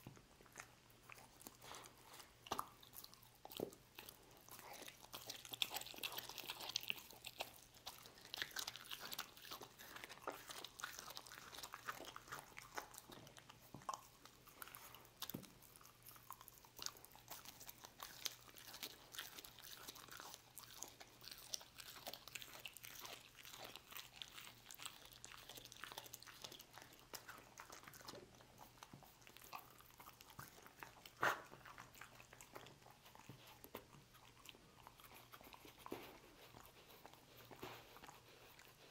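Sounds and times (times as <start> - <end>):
dog chewing meat: 0.0 - 38.9.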